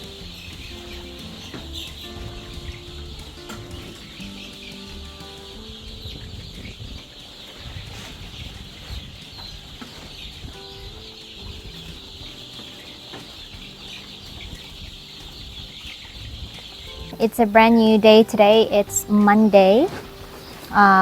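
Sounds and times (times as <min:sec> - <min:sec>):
chicks peeping and clucking: 0:00.0 - 0:21.0.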